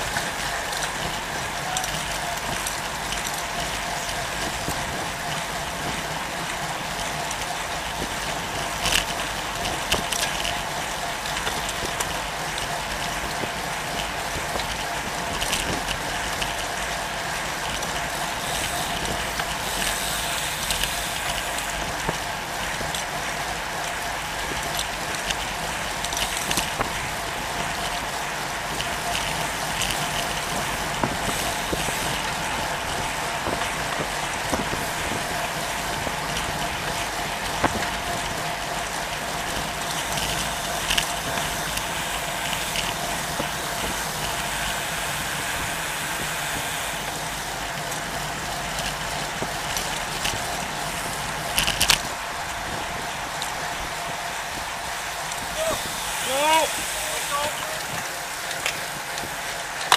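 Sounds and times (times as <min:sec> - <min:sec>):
bike mechanical clicks: 0:00.0 - 0:59.9
bike tyres on tarmac: 0:00.0 - 0:59.9
freewheel ticking: 0:00.0 - 0:59.9.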